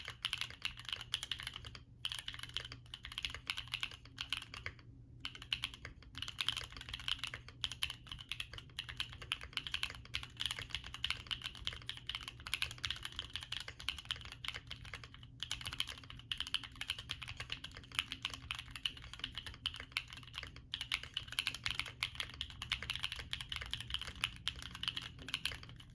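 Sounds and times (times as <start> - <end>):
mechanical keyboard typing: 0.0 - 25.9.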